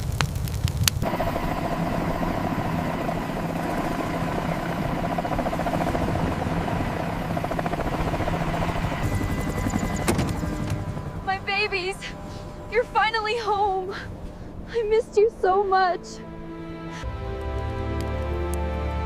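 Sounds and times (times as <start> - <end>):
pulsing engine drone: 1.0 - 17.1.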